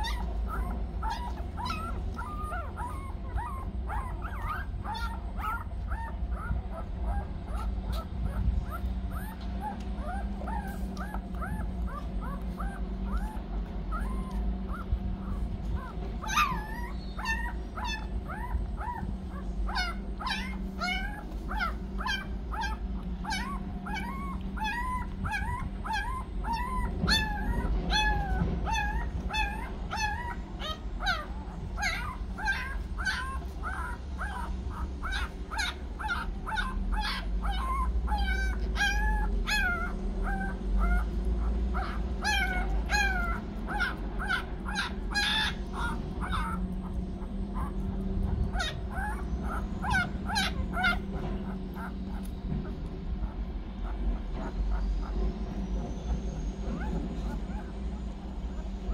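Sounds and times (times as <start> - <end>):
puppies squeaking and whimpering: 0.0 - 58.9.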